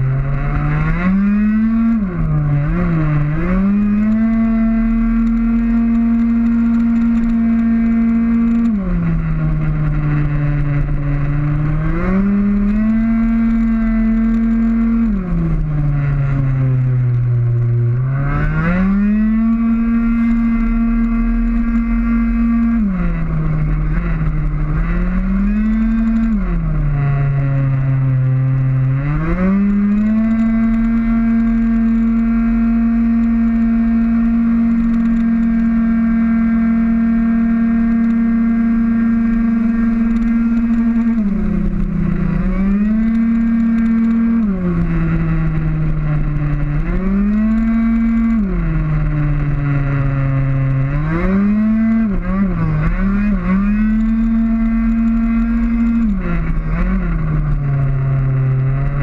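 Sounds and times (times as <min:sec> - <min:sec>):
scooter engine at full throttle: 0:00.0 - 0:59.0.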